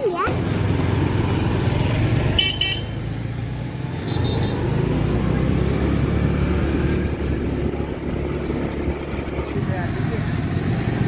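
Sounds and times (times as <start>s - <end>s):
motorbike engine and road rumble: 0.0s - 11.0s.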